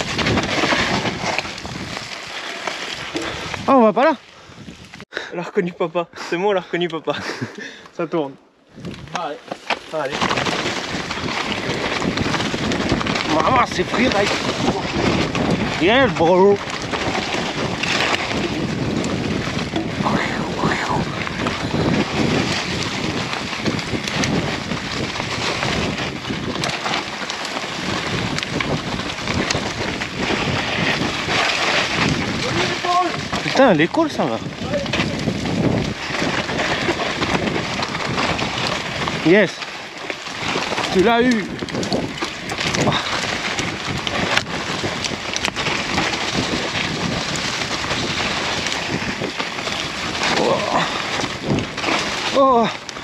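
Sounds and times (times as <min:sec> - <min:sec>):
bike clicks and rattles: 0:00.0 - 0:05.0, 0:08.8 - 0:53.0
wind buffeting microphone: 0:00.0 - 0:05.1, 0:08.7 - 0:09.4, 0:10.0 - 0:53.0
tyres rolling through dirt and leaves: 0:00.0 - 0:05.7, 0:06.5 - 0:53.0.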